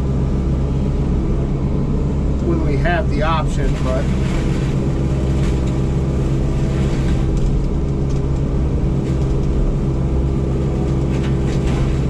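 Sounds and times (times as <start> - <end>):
excavator diesel engine and hydraulics: 0.0 - 12.0.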